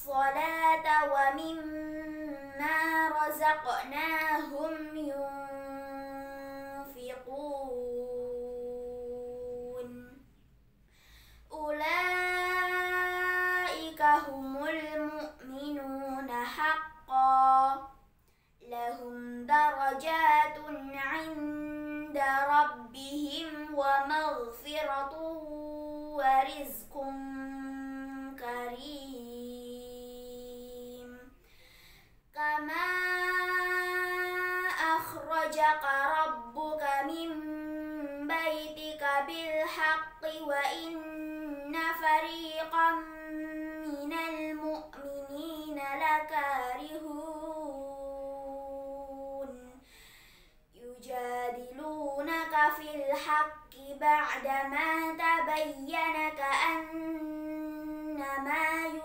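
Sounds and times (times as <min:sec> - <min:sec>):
girl chanting recitation: 0:00.0 - 0:10.2, 0:11.5 - 0:31.4, 0:32.3 - 0:49.8, 0:50.7 - 0:59.0.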